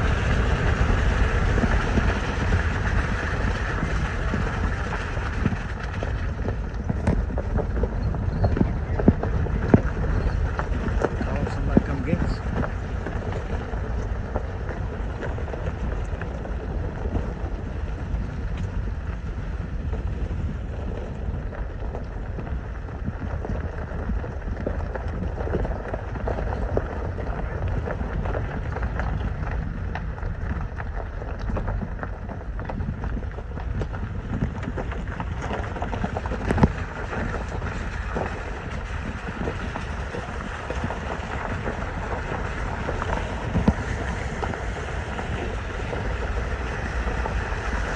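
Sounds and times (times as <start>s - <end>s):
rattles and bumps: 0.0s - 47.9s
vehicle driving on dirt road: 0.0s - 47.9s.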